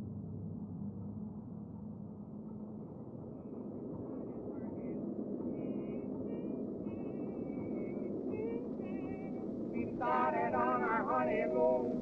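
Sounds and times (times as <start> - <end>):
rumbling ambient drone: 0.0 - 12.0.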